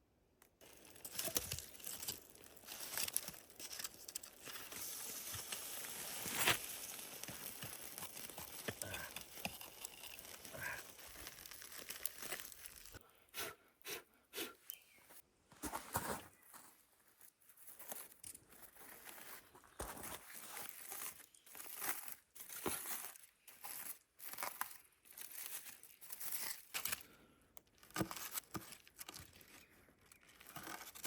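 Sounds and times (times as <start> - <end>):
rustling and crinkling: 0.6 - 13.0, 15.1 - 27.0, 27.7 - 31.0.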